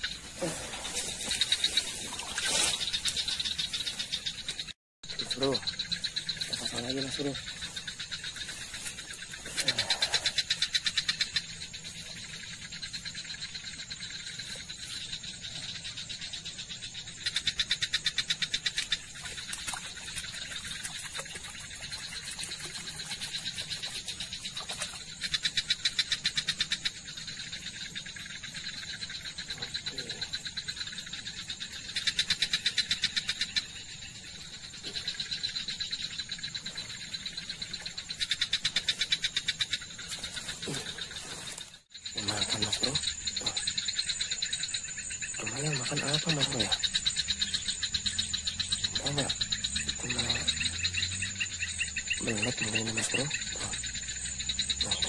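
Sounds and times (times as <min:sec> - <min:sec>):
fast pulsed animal trill: 0:00.0 - 0:55.0.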